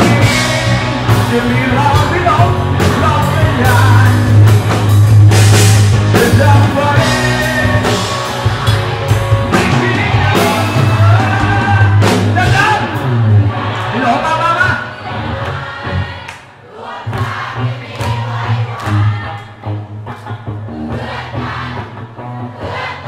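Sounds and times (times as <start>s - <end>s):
rock band playing: 0.0s - 16.2s, 17.2s - 23.0s.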